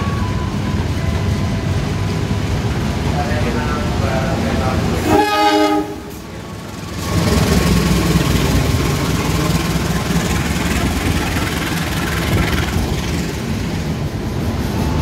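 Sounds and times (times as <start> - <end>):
locomotive engine rumbling: 0.0 - 15.0
train coaches rolling past: 0.0 - 15.0.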